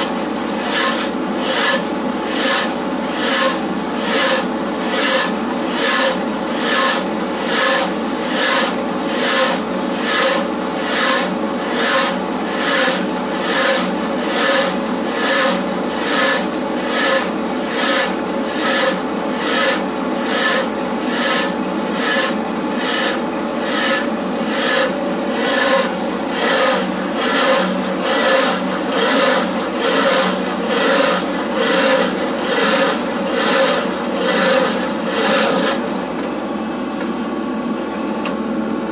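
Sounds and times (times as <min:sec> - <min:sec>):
stump grinder rasping: 0:00.0 - 0:37.0
skid steer engine drone: 0:00.0 - 0:38.9.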